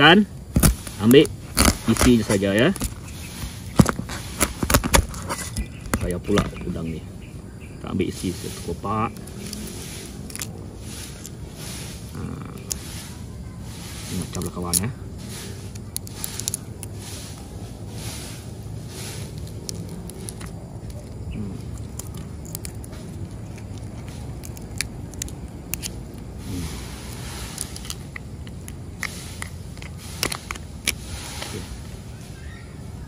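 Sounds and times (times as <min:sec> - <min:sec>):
prawn shell cracking and crinkling: 0:00.0 - 0:06.9, 0:08.1 - 0:32.0
low background hum: 0:00.0 - 0:33.0.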